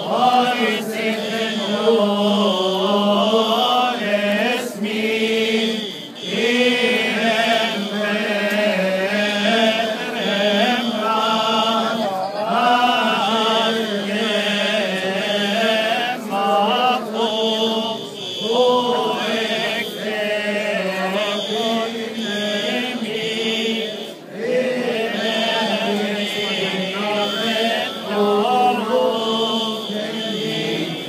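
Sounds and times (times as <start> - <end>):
voices chanting a hymn: 0.0 - 31.0.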